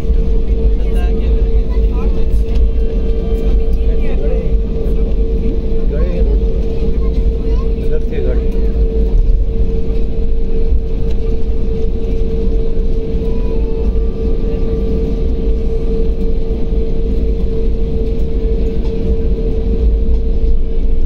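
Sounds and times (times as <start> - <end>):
airliner cabin engine hum: 0.0 - 21.0.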